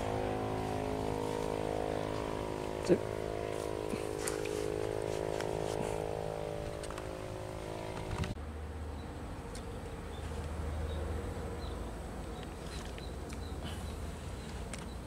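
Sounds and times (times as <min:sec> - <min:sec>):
low hum: 0:00.0 - 0:15.0
small engine running: 0:00.0 - 0:15.0.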